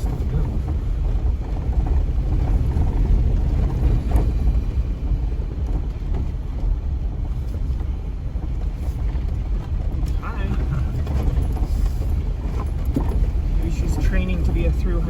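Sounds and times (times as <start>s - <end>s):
vehicle rumbling on dirt road: 0.0s - 15.0s.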